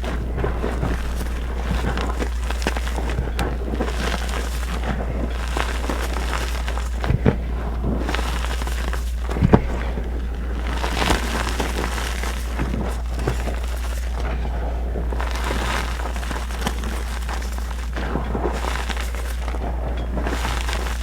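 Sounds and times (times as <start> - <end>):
chalk being crushed: 0.0 - 21.0.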